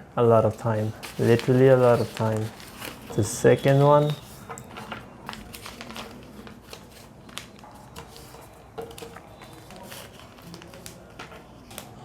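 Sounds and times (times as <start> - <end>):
paper rustling and crinkling: 0.4 - 12.0.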